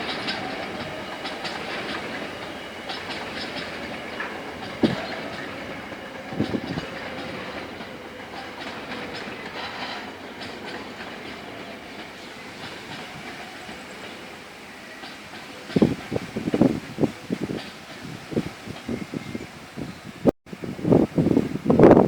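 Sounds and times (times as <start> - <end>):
train wheels clattering over rails: 0.0 - 20.2.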